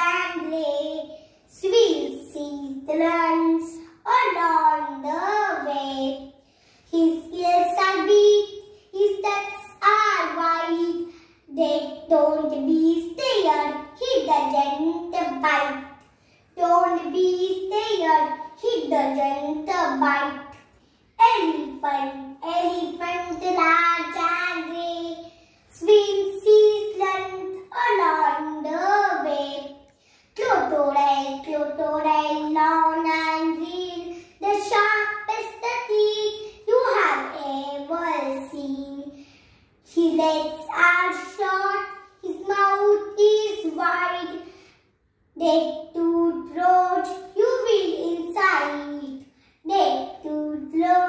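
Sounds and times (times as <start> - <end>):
girl reciting a poem: 0.0 - 51.0.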